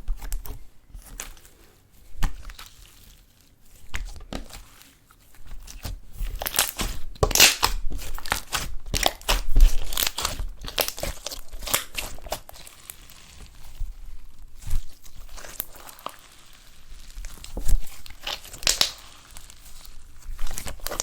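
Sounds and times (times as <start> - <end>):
slime squished by hand: 2.1 - 13.9, 14.6 - 21.0.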